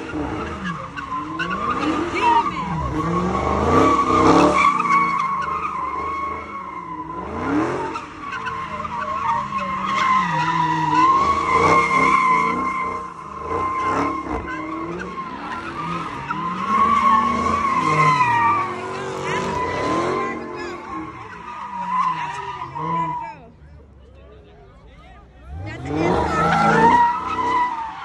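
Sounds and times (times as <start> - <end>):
car engine revving: 0.0 - 23.5, 25.4 - 28.0
tyres squealing: 0.0 - 23.5.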